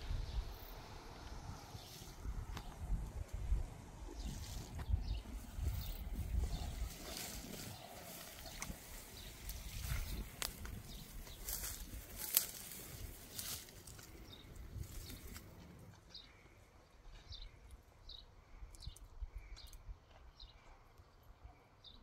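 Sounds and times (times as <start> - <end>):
small bird chirping: 4.2 - 22.0.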